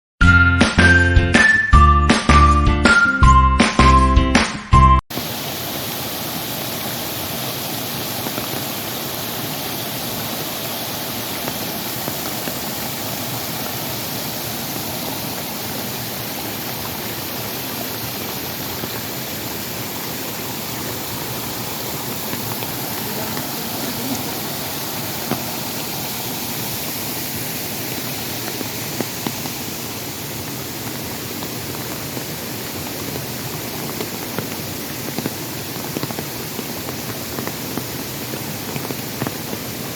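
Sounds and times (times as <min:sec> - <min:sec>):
rushing water: 0:05.1 - 0:39.9.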